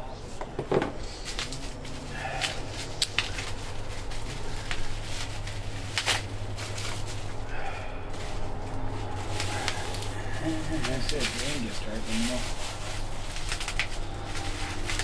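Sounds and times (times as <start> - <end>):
steady low hum: 0.0 - 15.0
cardboard rustling: 0.5 - 15.0.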